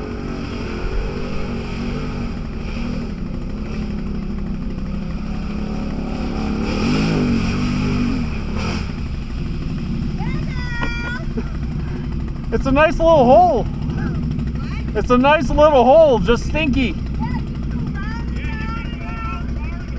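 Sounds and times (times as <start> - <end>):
off-road vehicle engine revving: 0.0 - 19.9.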